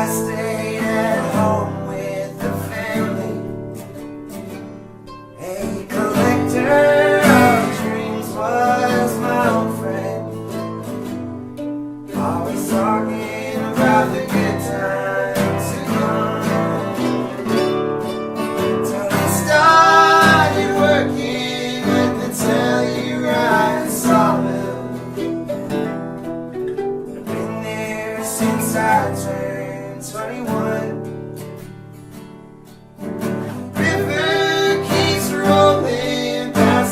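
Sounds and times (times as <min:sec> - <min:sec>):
acoustic guitar strummed and picked: 0:00.0 - 0:36.9.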